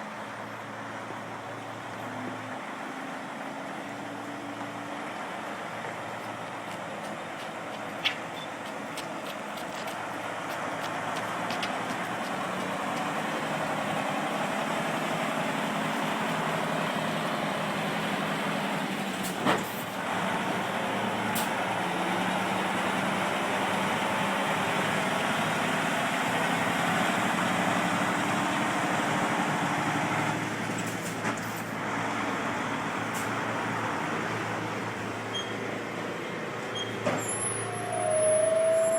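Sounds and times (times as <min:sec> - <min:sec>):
diesel truck engine humming: 0:00.0 - 0:38.9.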